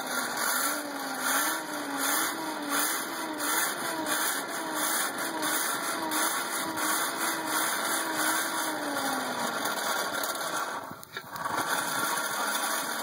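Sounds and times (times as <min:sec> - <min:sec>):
forge blower humming: 0:00.0 - 0:13.0.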